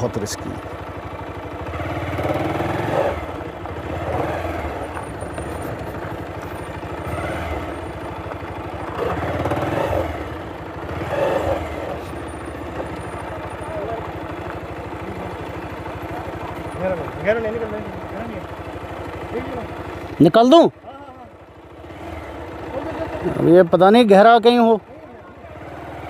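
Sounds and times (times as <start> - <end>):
motorcycle engine at low revs: 0.0 - 26.0.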